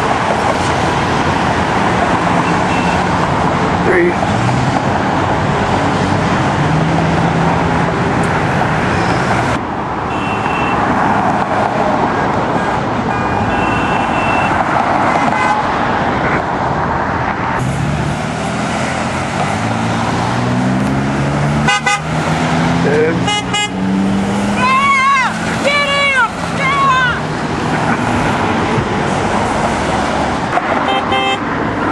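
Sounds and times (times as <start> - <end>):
heavy road traffic passing: 0.0 - 31.9.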